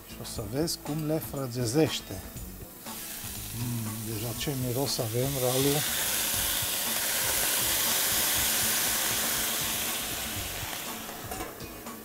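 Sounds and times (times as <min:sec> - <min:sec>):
wine sizzling in a hot pan: 0:01.6 - 0:12.0.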